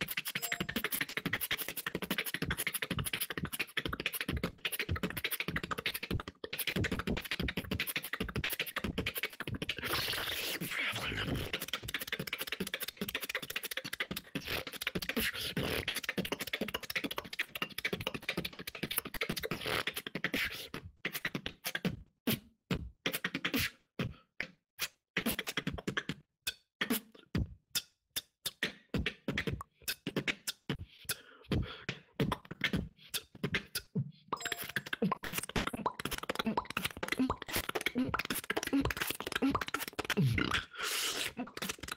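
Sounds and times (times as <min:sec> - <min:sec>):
beatboxing vocal percussion: 0:00.0 - 0:41.9.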